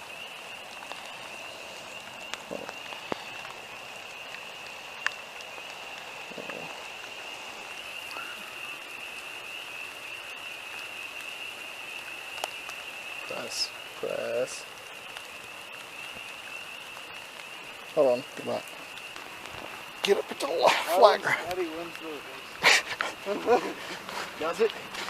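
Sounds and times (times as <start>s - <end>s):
rain falling steadily: 0.0s - 25.0s
ticks of raindrops: 0.0s - 25.0s.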